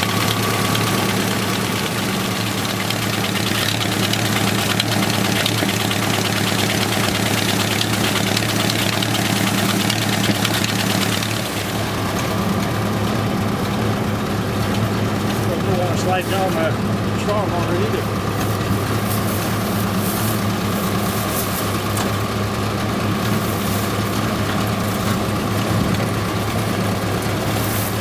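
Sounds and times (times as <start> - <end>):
combine harvester engine running: 0.0 - 28.0.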